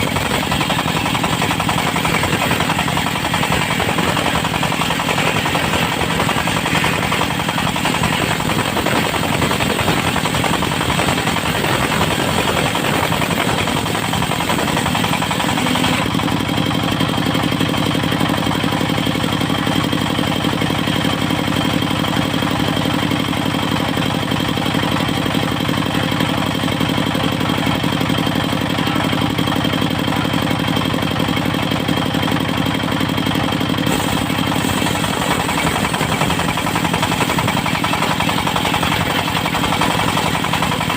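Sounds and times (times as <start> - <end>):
circular sawmill engine running: 0.0 - 40.9.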